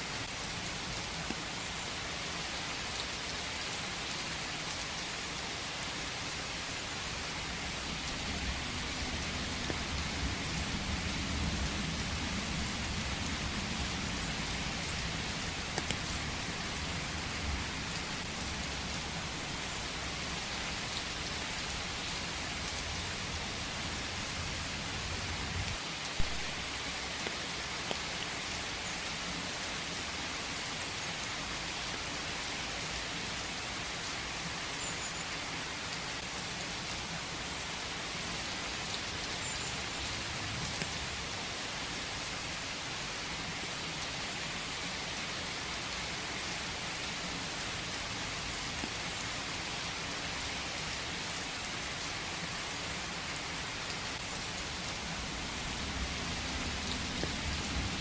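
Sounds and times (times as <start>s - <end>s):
rain falling in forest: 0.0s - 58.0s.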